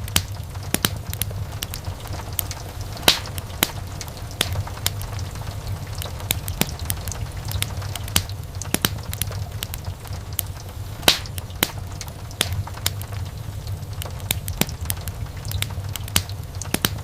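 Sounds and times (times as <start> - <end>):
fire crackling and popping: 0.0 - 17.0
flames rumbling: 0.0 - 17.0.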